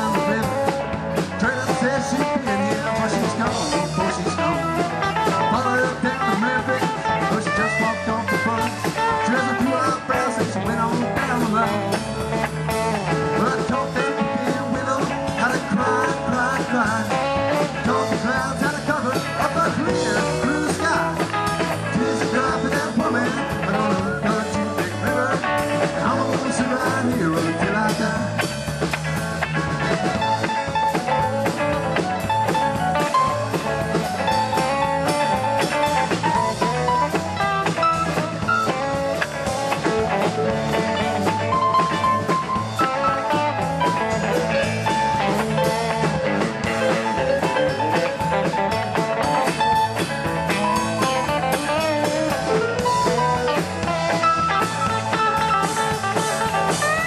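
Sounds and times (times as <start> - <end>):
drum kit: 0.0 - 57.0
electric guitars: 0.0 - 57.0
keyboard: 0.0 - 57.0.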